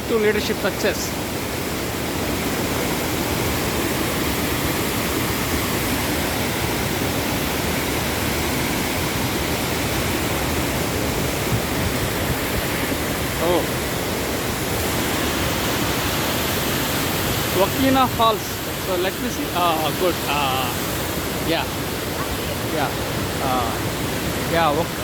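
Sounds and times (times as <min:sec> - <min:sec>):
waterfall rushing and splashing: 0:00.0 - 0:25.0.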